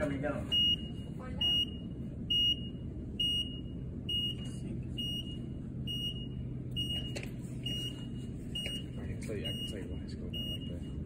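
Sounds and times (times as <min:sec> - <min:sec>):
low steady hum: 0:00.0 - 0:11.0
vehicle lift warning beeps: 0:00.2 - 0:11.0.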